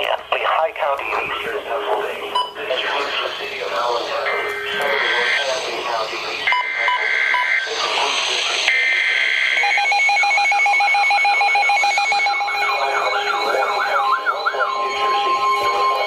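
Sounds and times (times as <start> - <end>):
synthesized voice: 0.0 - 9.7, 11.2 - 16.0
steady warning alarm tone: 1.2 - 16.0
digital data bursts: 2.4 - 16.0
pulsing and warbling alert tones: 2.5 - 16.0.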